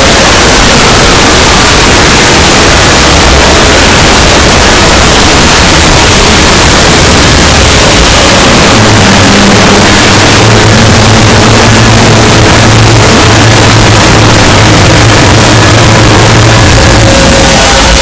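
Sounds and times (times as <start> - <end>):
loud distorted static noise: 0.0 - 18.0
low steady drone: 0.0 - 18.0.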